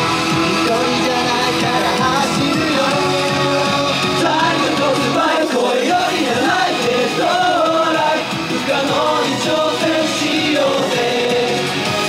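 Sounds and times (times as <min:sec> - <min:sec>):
upbeat pop song male vocals: 0:00.0 - 0:12.0.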